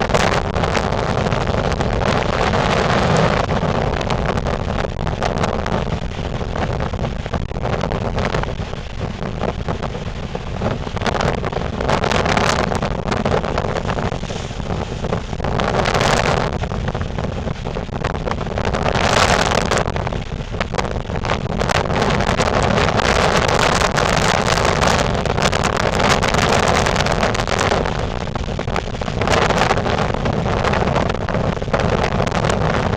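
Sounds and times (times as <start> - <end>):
heavy surf: 0.0 - 32.9
wind buffeting microphone: 0.0 - 32.9.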